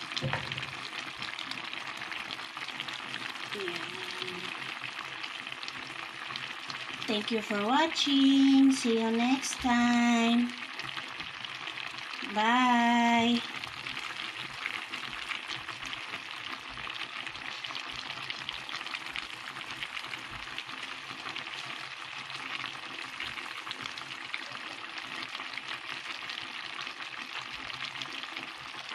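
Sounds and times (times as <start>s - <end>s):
clams sizzling in a pan: 0.0s - 28.9s.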